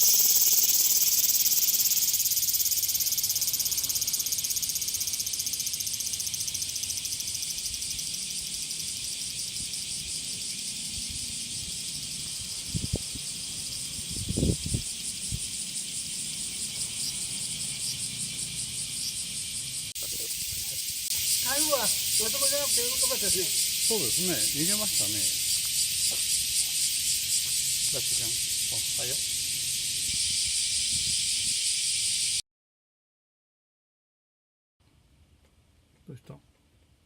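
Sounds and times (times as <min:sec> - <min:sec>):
cicadas buzzing: 0:00.0 - 0:32.4.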